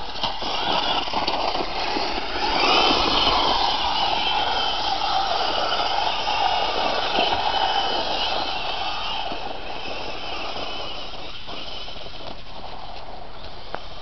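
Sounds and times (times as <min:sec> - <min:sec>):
rc truck motor whining: 0:00.0 - 0:14.0
tyres on dirt: 0:00.0 - 0:14.0.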